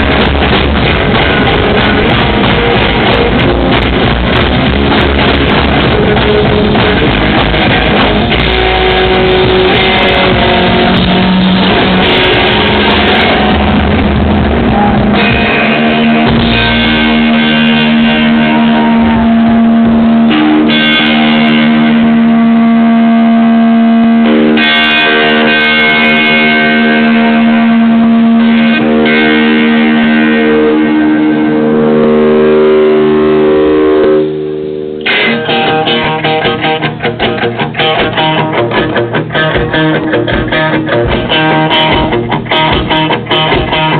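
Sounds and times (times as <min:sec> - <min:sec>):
live rock band playing: 0:00.0 - 0:43.9
sustained electric guitar chords: 0:00.0 - 0:43.9.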